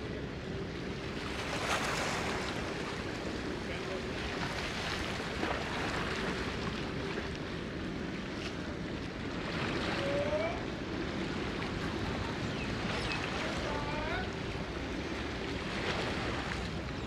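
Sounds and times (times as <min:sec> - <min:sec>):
low hum of boat engines: 0:00.0 - 0:17.0
wash of open water: 0:00.0 - 0:17.0.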